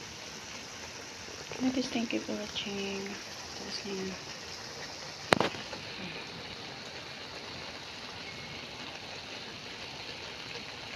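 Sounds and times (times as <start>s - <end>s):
stir-fry hissing in a wok: 0.0s - 10.9s.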